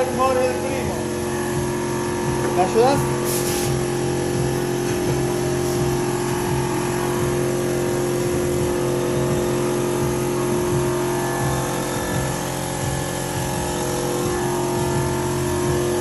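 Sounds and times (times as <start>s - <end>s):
workshop machinery motor drone: 0.0s - 16.0s.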